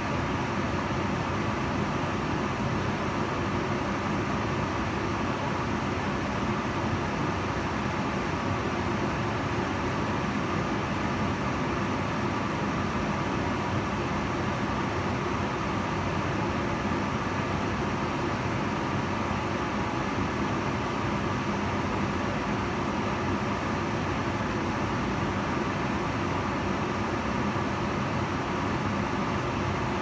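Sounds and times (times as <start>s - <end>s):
range hood fan running: 0.0s - 30.0s.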